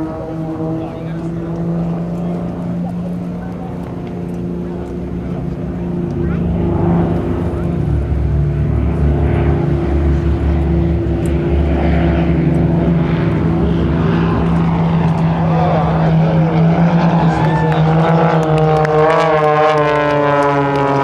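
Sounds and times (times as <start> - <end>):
propeller airplanes droning: 0.0 - 21.0.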